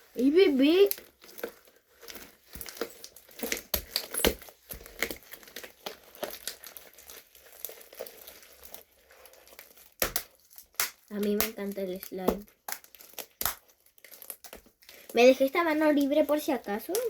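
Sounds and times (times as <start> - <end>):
slime kneaded by hand: 0.0 - 17.0.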